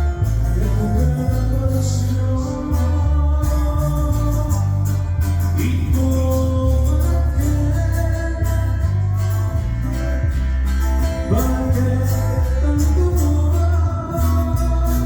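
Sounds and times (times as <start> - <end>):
band playing loud music: 0.0 - 15.0
heavy bass notes: 0.0 - 15.0
percussion beat: 0.0 - 15.0.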